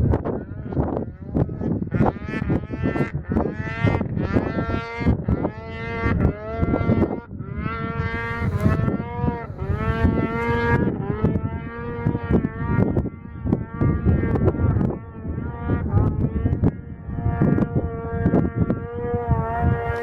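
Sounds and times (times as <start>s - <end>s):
snowmobile engine revving: 0.7s - 20.0s.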